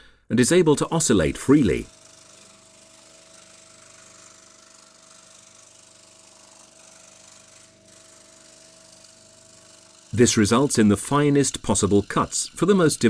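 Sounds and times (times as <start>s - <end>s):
saw blade pulsing: 0.5s - 13.0s
scroll saw motor humming: 0.8s - 13.0s.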